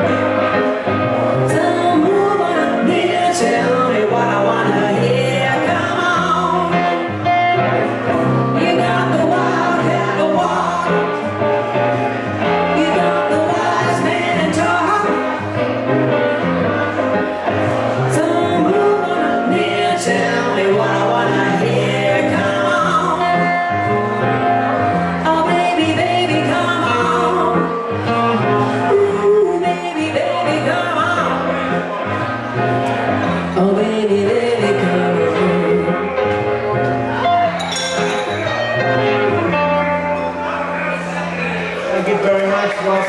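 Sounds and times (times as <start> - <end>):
acoustic-electric guitar: 0.0 - 43.0
keyboard: 0.0 - 43.0
person singing: 1.4 - 24.3, 25.1 - 32.2, 33.2 - 39.5.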